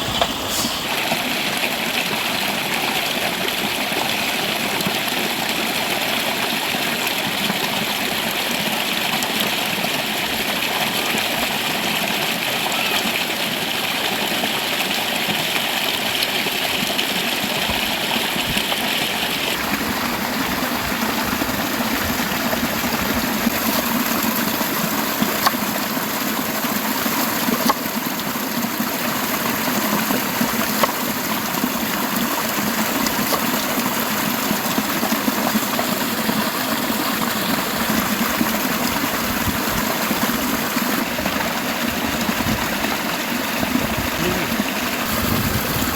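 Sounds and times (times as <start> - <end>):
river flowing: 0.0 - 45.9.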